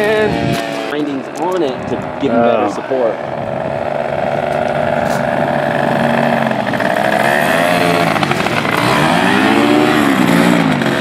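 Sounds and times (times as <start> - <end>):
paramotor engine and propeller: 0.0 - 11.0.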